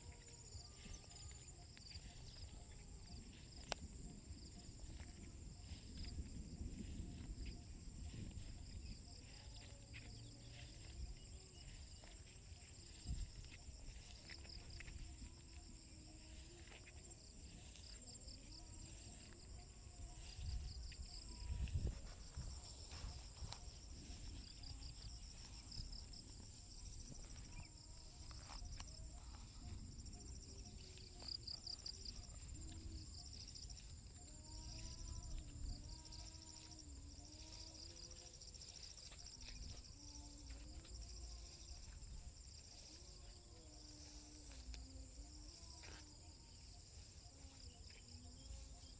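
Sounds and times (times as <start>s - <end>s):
insect high-pitched buzz: 0.0s - 48.9s
insect pulsing chirps: 0.0s - 48.9s.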